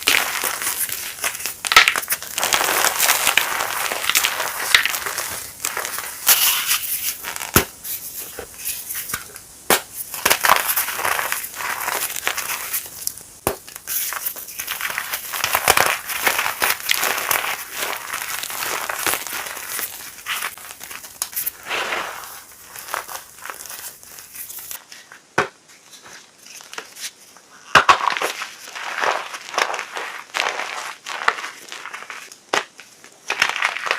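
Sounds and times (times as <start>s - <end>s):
chalk crunching and crumbling: 0.0s - 33.9s.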